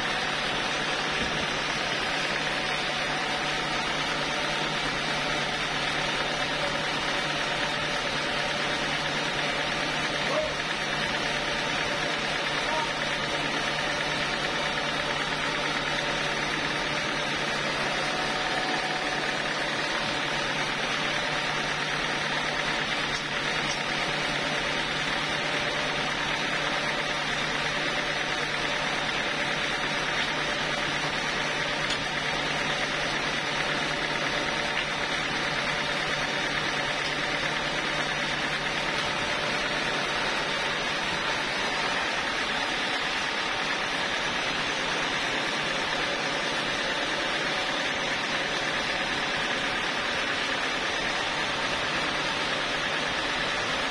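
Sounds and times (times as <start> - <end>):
band saw whirring drone: 0.0 - 53.9.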